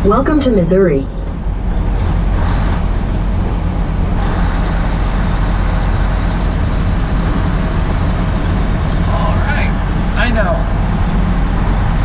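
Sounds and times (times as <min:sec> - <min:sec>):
road and tyre noise: 0:00.0 - 0:12.0
truck engine drone: 0:00.0 - 0:12.0.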